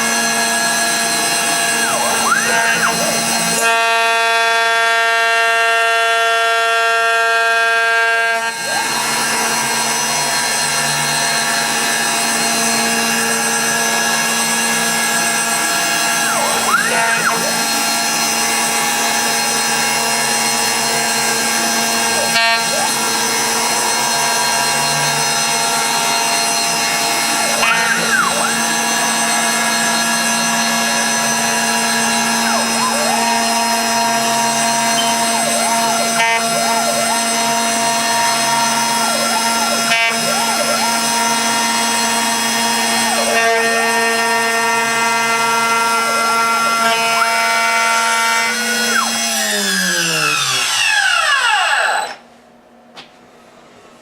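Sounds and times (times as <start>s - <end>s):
axis motors whining: 0.0s - 52.2s
router spindle whine: 0.0s - 52.3s.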